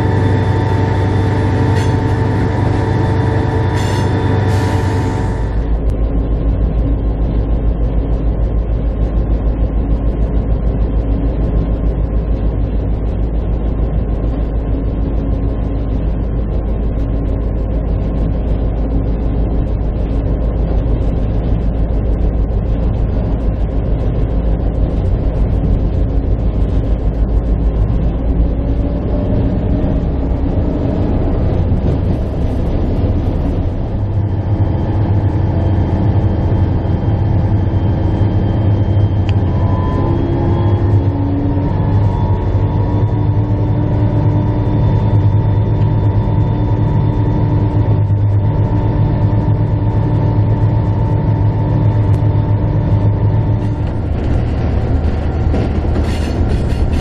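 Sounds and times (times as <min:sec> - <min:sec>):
diesel locomotive engine running: 0:00.0 - 0:57.0.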